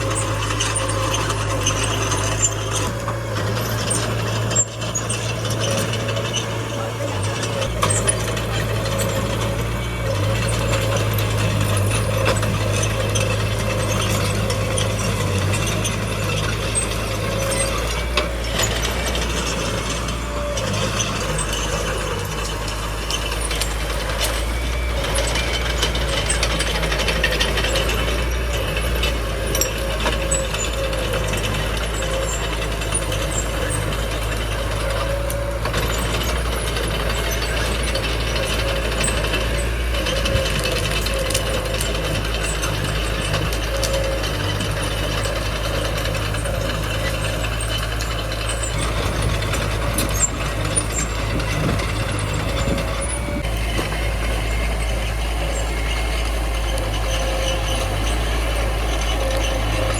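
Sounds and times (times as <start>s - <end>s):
bulldozer diesel engine running: 0.0s - 59.9s
crawler tracks clanking: 0.0s - 59.9s.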